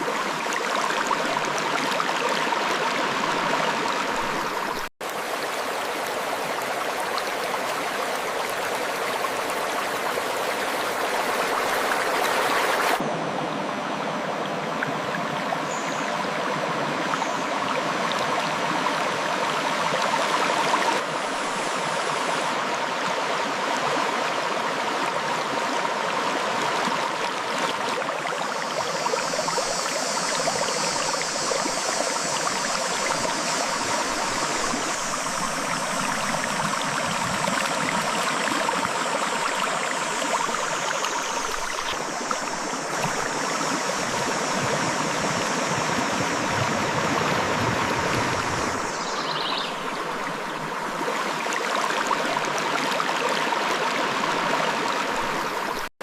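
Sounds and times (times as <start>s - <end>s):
river flowing over rocks: 0.0s - 55.9s.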